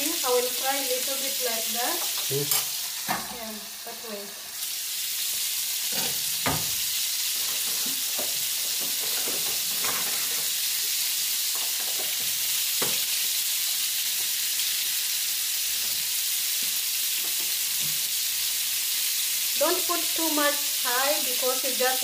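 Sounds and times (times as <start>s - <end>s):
meatballs sizzling in a frying pan: 0.0s - 22.0s.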